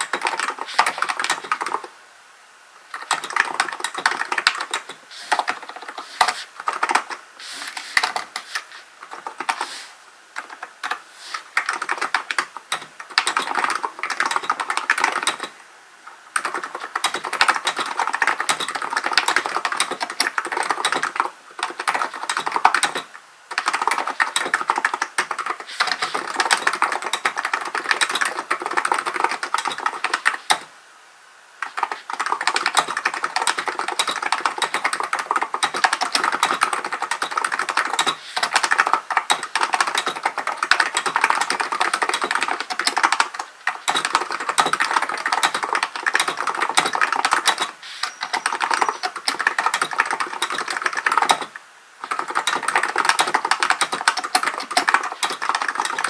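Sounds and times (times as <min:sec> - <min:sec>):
keyboard typing: 0:00.0 - 0:01.9, 0:02.9 - 0:09.8, 0:10.4 - 0:15.6, 0:16.3 - 0:30.7, 0:31.6 - 0:56.0.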